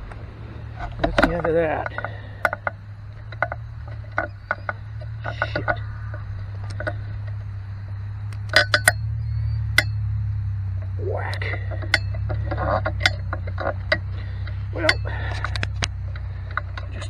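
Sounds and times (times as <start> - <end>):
sharp clicks and knocks: 0.0 - 10.1, 10.7 - 17.0
paramotor engine humming: 0.0 - 17.0.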